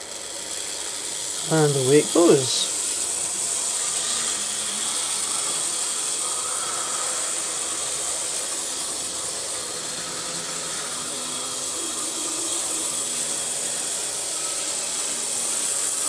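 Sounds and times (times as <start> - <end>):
model train motor whirring: 0.0 - 16.0.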